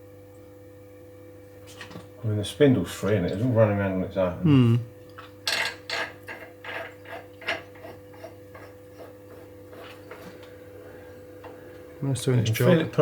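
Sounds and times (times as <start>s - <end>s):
circulation pump humming: 0.0s - 13.0s.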